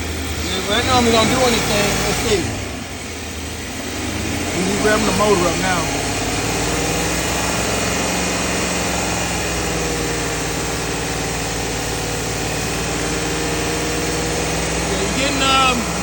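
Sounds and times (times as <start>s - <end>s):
car engine running revved: 0.0s - 16.0s.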